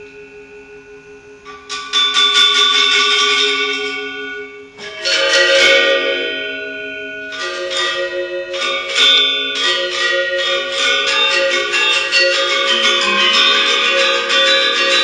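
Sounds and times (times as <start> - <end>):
metallophones ringing: 1.7 - 15.0.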